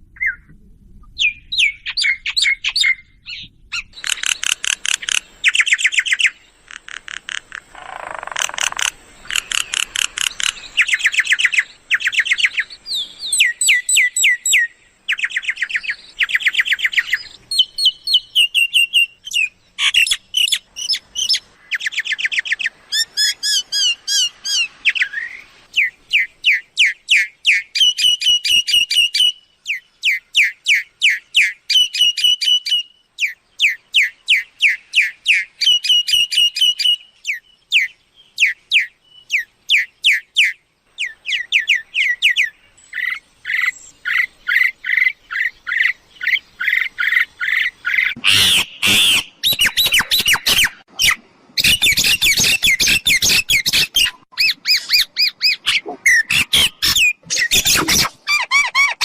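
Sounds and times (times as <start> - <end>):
myna whistled chirps: 8.4 - 59.0.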